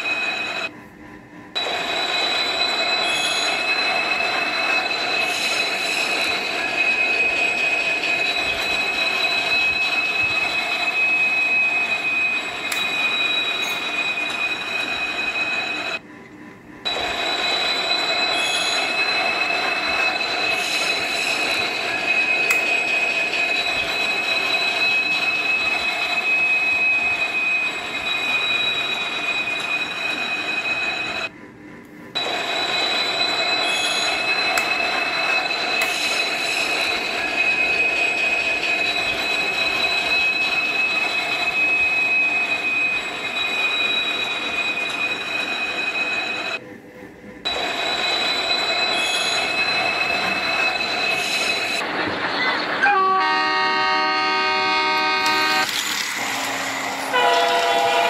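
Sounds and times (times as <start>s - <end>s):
toy train running on track: 0.0s - 0.7s, 1.6s - 16.0s, 16.9s - 31.3s, 32.2s - 46.6s, 47.4s - 58.0s.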